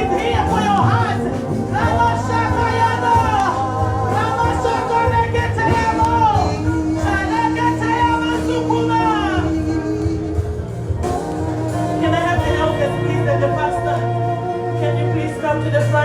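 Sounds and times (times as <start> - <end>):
instrumental accompaniment: 0.0 - 16.0
person singing long notes: 0.0 - 16.0.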